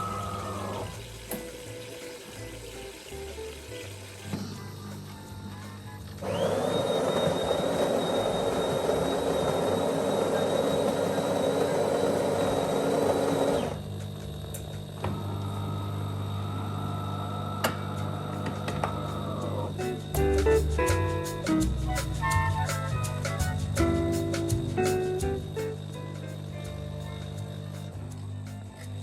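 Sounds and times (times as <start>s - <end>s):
coffee machine whirring: 0.0s - 20.2s, 25.0s - 29.0s.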